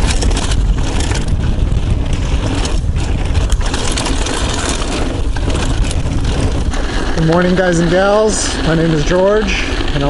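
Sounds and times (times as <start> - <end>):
bike tyres rolling on dirt: 0.0 - 10.0
wind buffeting microphone: 0.0 - 10.0.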